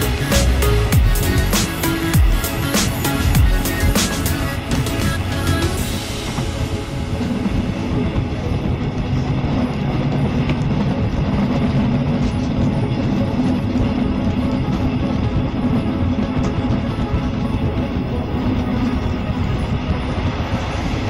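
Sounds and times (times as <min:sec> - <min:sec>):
passenger train running: 0:00.0 - 0:21.0.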